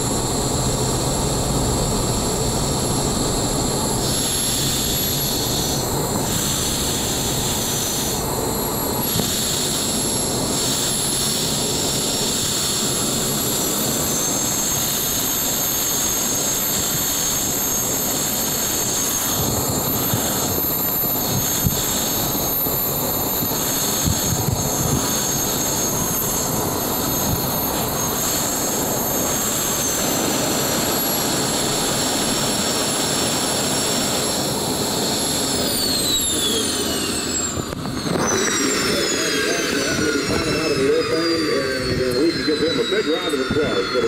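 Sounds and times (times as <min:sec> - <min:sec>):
jet engine noise rush: 0:00.0 - 0:44.0
small jet engine whine: 0:00.0 - 0:44.0.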